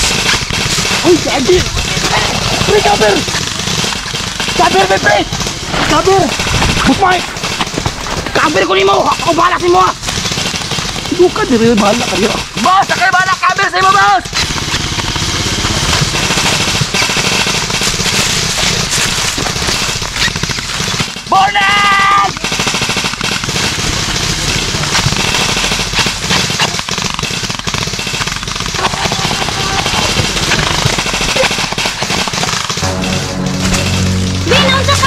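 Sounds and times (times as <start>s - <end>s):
airsoft rifles firing bursts: 0.0s - 35.0s.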